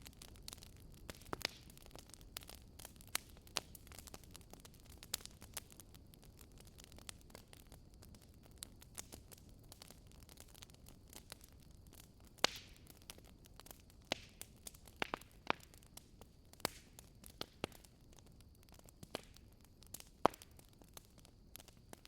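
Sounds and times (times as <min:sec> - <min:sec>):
fire crackling in a fireplace: 0:00.0 - 0:22.0.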